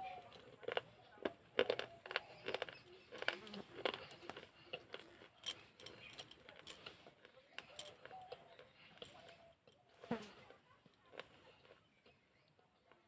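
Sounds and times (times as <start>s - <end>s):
clay pot pieces being chewed: 0.0s - 13.0s.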